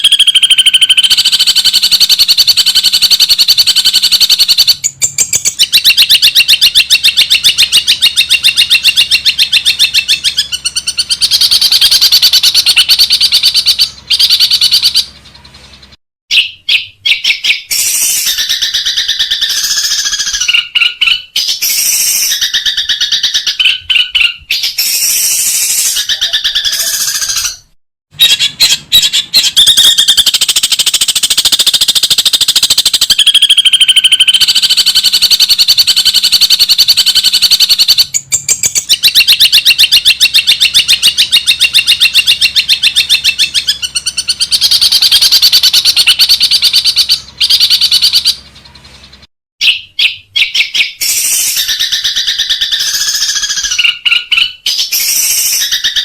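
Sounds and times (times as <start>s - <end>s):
bird singing fast rattling notes: 0.0s - 56.0s.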